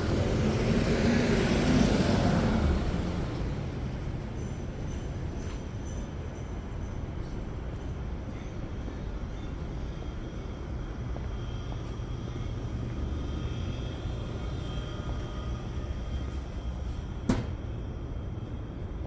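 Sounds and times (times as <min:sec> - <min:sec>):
city street traffic rumble: 0:00.0 - 0:19.0.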